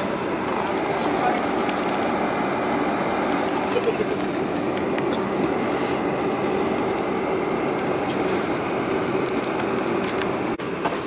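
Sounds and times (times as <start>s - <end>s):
airplane cabin hum: 0.0s - 11.0s.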